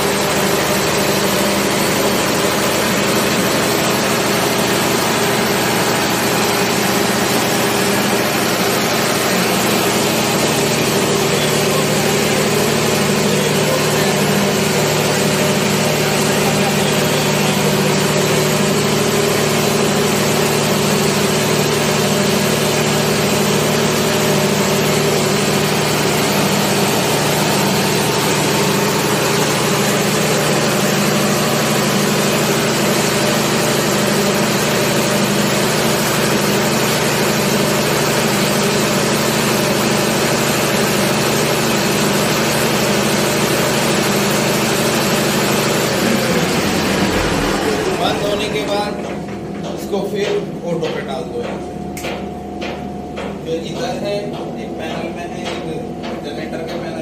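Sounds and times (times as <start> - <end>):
diesel generator running: 0.0 - 57.0.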